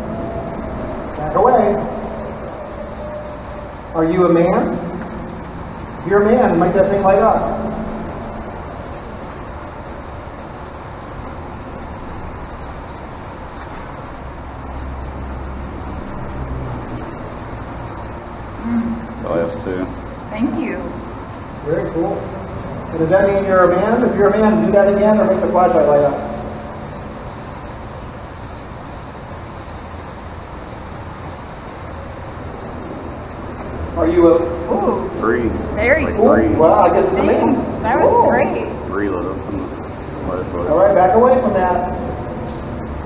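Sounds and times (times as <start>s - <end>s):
highway traffic rumble: 0.0s - 43.0s.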